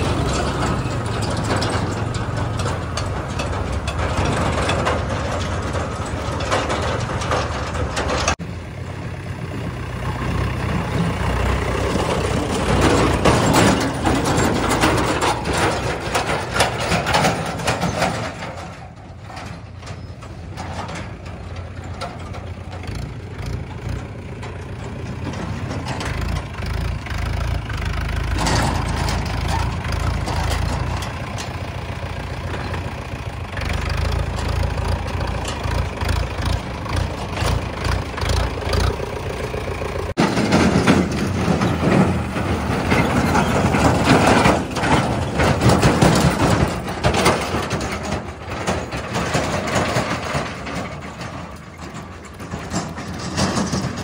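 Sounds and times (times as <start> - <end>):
tractor diesel engine rumbling: 0.0 - 54.0.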